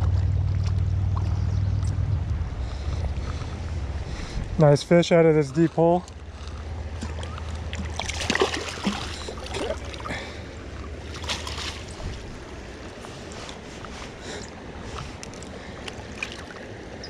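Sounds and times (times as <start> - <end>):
fish splashing and thrashing: 0.0 - 4.4, 5.4 - 17.0
running creek water: 0.0 - 17.0.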